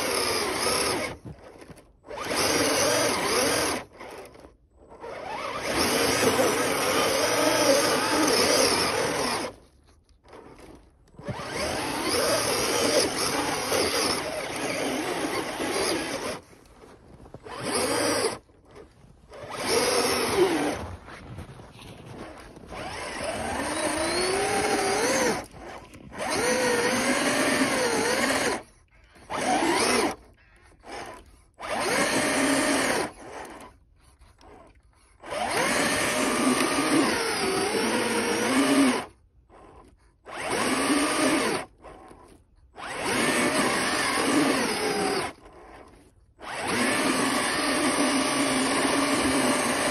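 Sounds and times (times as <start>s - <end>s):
rc truck electric motor whining: 0.0s - 49.9s
tyres churning through snow: 0.0s - 49.9s.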